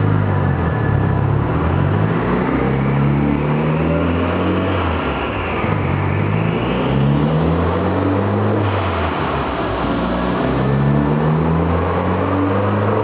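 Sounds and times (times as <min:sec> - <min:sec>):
car engine revving on dynamometer: 0:00.0 - 0:13.0.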